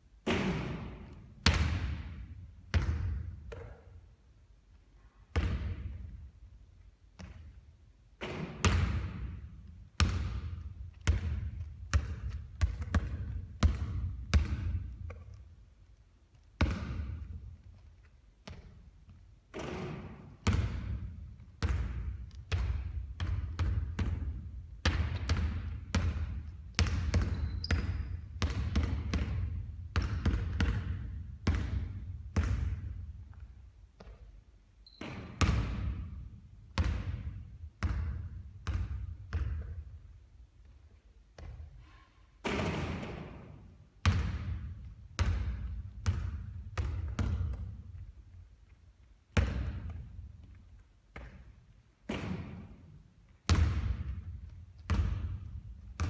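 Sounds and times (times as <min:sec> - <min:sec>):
basketball bouncing on court: 0:00.2 - 0:04.0, 0:05.3 - 0:06.2, 0:07.2 - 0:15.4, 0:16.4 - 0:40.0, 0:41.4 - 0:41.8, 0:42.4 - 0:48.1, 0:49.3 - 0:56.0.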